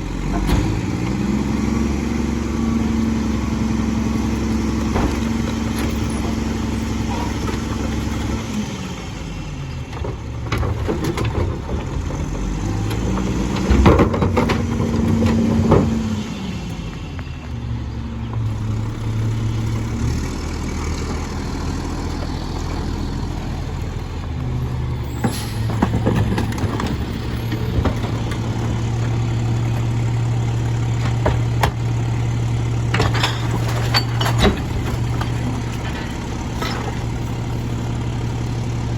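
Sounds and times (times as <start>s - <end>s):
truck clanks and knocks: 0.0s - 38.9s
truck diesel engine revving and idling: 0.0s - 38.9s.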